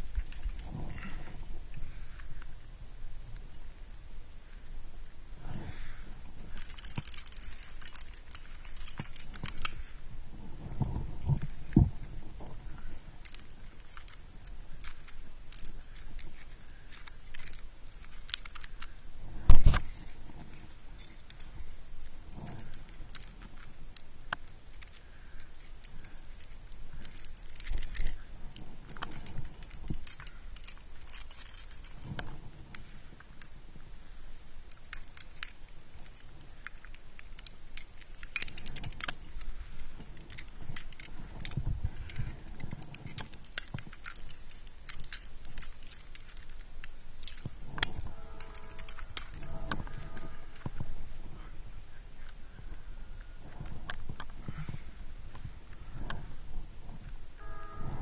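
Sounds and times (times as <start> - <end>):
climbing gear clinking: 0.0 - 2.6, 5.4 - 58.0.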